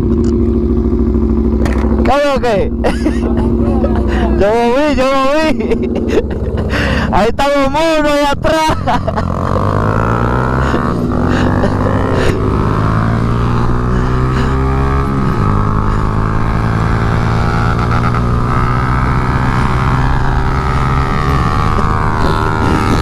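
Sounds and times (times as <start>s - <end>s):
motorcycle engines running: 0.0s - 23.0s.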